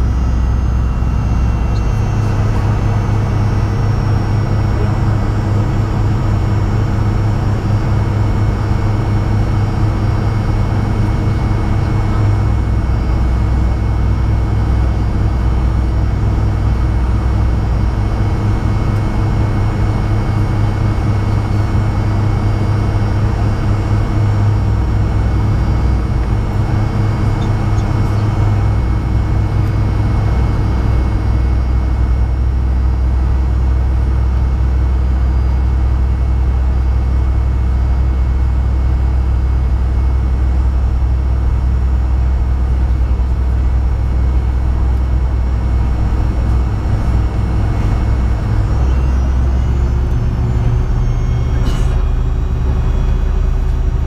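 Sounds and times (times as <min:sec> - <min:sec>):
high engine whine: 0:00.0 - 0:54.0
jet engines low rumble: 0:00.0 - 0:54.0.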